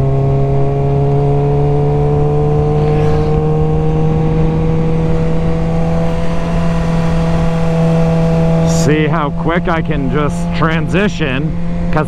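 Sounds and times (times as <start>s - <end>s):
motorcycle engine revs climbing: 0.0s - 12.0s.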